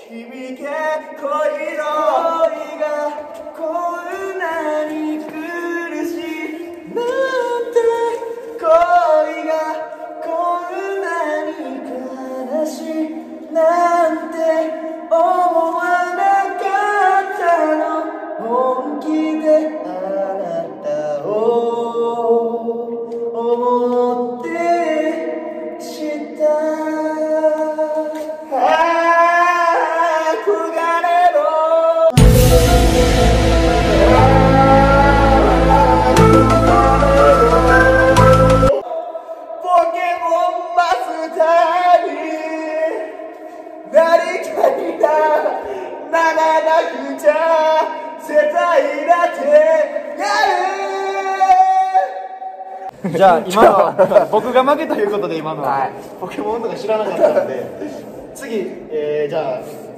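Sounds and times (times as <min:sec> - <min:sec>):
pop love song: 0:00.0 - 0:52.9.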